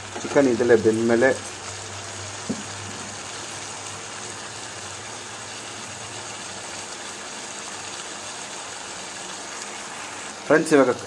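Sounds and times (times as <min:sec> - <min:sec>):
curry frying and simmering: 0:00.0 - 0:11.0.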